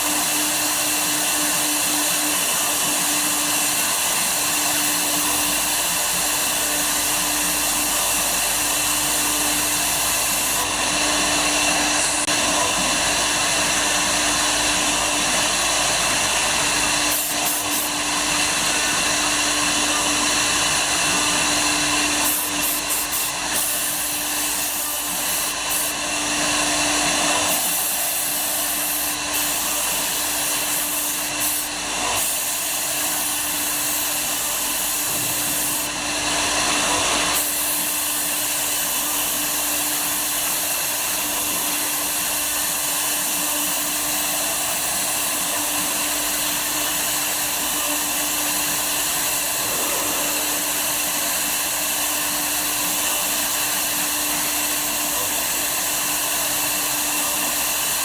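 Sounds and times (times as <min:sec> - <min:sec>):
cnc router cutting wood: 0:00.0 - 0:58.0.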